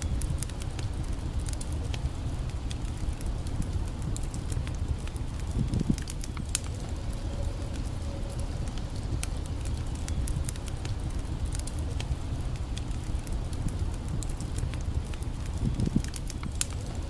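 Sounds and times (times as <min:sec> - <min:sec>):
campfire crackling: 0:00.0 - 0:17.0
low rushing background: 0:00.0 - 0:17.0
sharp fire pops: 0:00.0 - 0:17.0.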